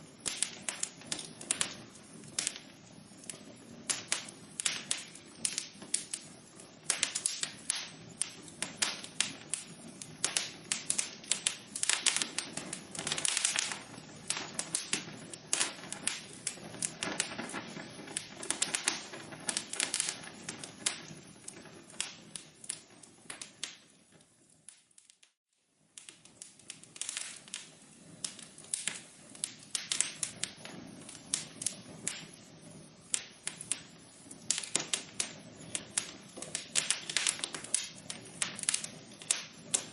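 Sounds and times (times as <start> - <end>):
low hiss of fire: 0.0 - 39.9
wood fire crackling: 0.0 - 39.9.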